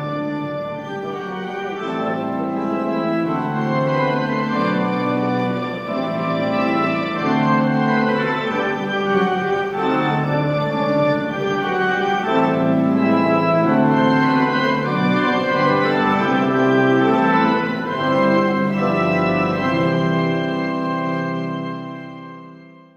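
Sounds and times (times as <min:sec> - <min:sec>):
slow organ chords: 0:00.0 - 0:22.7.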